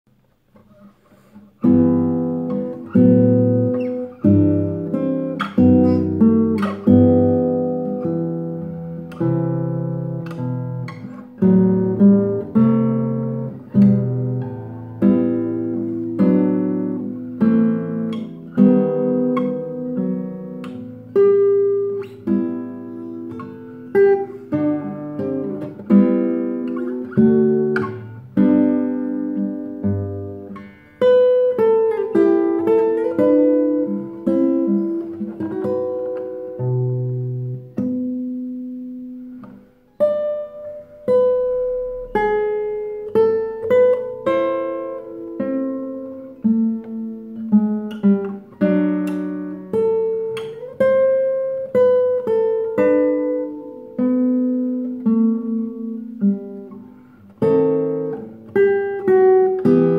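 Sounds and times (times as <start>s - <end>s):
classical guitar playing: 0.1s - 59.9s.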